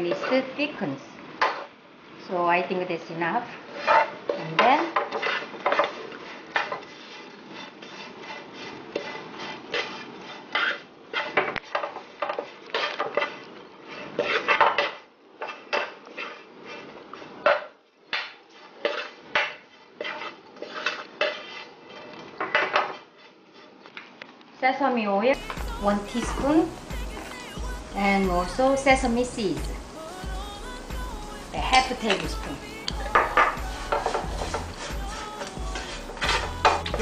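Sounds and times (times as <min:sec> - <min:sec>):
plastic spoon scraping frying pan: 0:03.2 - 0:23.8, 0:25.3 - 0:37.0.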